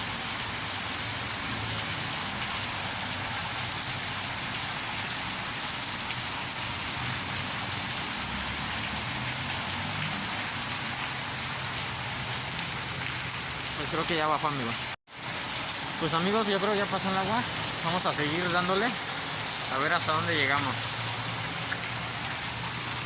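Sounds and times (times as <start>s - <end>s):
heavy rain hitting ground: 0.0s - 23.0s.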